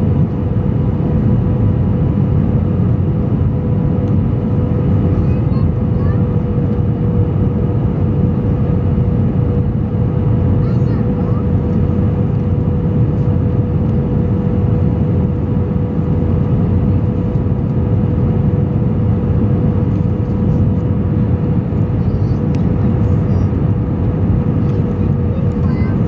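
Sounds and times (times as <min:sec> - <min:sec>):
airliner engine and airflow rumble: 0:00.0 - 0:26.0
steady cabin hum: 0:00.0 - 0:26.0.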